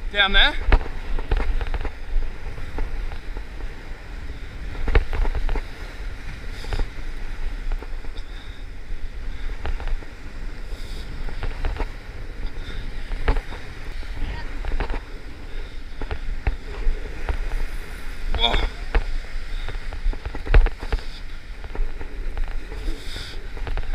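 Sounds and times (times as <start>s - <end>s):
surf washing against rock: 0.0s - 23.9s
wind rumbling on microphone: 0.0s - 23.9s.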